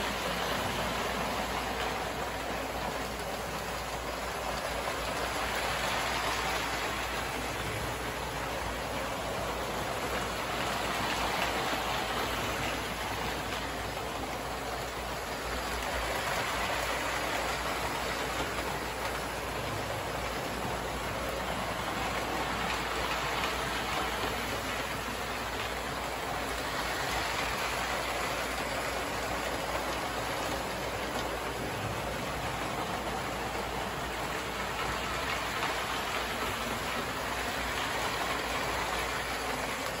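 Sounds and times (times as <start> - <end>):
toy trains whirring on track: 0.0 - 40.0.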